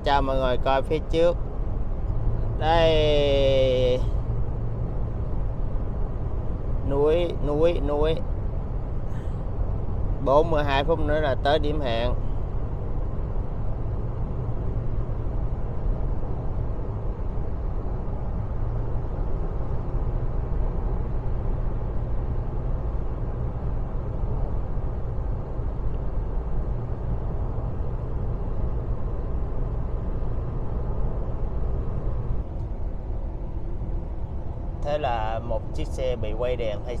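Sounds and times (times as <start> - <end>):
road and engine rumble in cab: 0.0 - 37.0.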